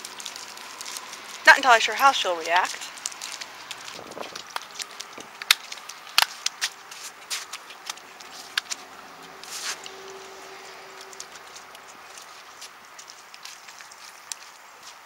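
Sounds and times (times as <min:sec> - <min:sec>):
footsteps squelching on muddy ground: 0:00.0 - 0:15.0.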